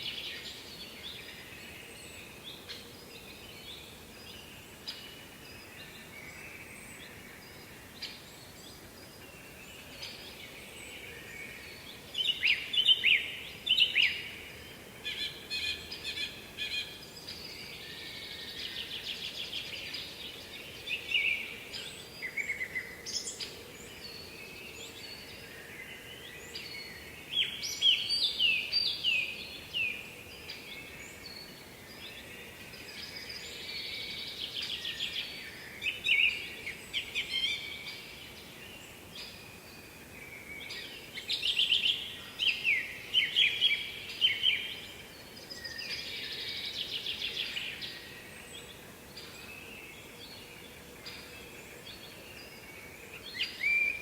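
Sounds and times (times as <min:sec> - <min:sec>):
faint background noise: 0:00.0 - 0:54.0
songbirds singing: 0:00.0 - 0:54.0.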